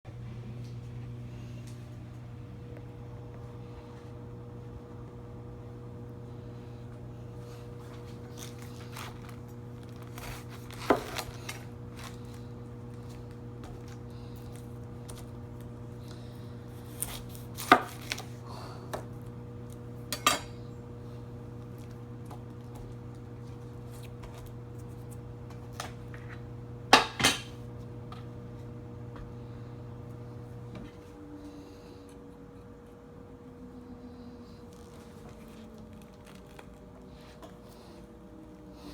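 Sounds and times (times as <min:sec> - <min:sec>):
steady low hum: 0:00.1 - 0:38.9.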